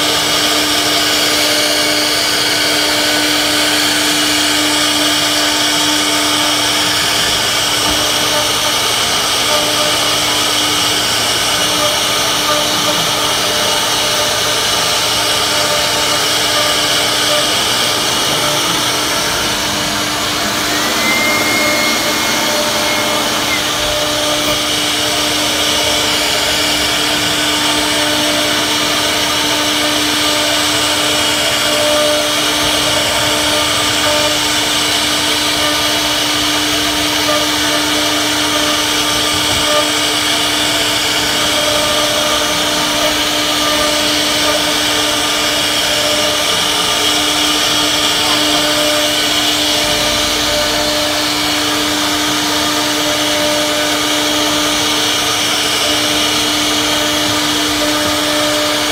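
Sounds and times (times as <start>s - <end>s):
router spindle whining: 0.0s - 58.9s.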